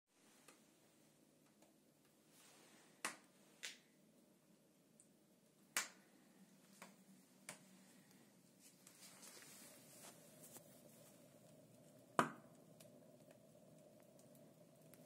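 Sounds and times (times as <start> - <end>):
burning wood crackling and popping: 1.4 - 15.0.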